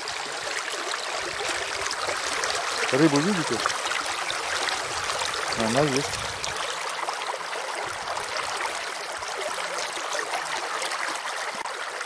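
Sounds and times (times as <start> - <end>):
river water rippling over pebbles: 0.0 - 12.0.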